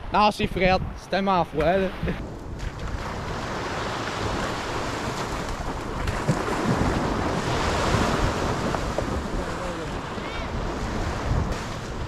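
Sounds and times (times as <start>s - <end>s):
wind buffeting microphone: 0.0s - 12.0s
surf washing onto beach: 1.6s - 12.0s.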